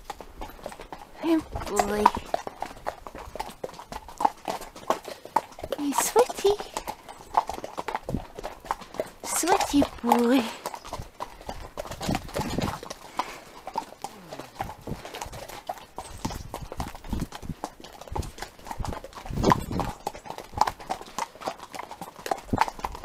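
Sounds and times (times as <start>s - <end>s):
horse hooves clip-clopping: 0.0s - 23.0s.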